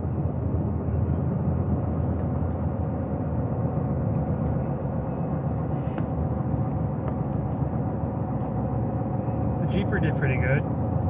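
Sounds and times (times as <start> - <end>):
road and engine noise in vehicle: 0.0 - 11.0.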